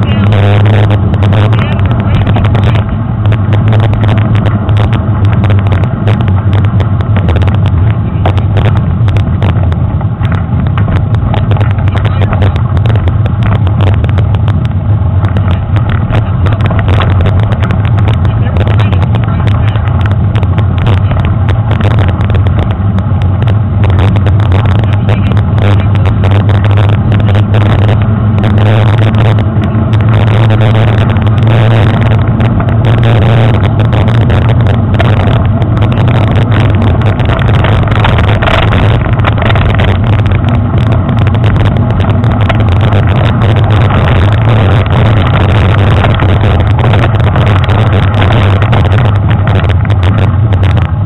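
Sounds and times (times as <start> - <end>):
wind and vibration rumble: 0.0 - 51.0.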